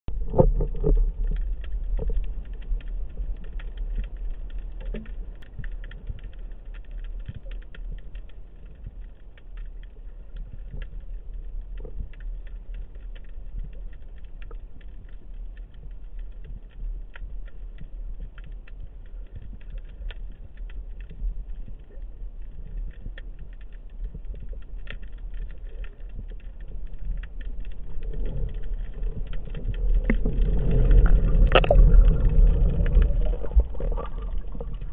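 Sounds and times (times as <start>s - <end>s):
low underwater rumble: 0.1s - 34.9s
underwater crackle of tiny clicks: 0.1s - 34.9s.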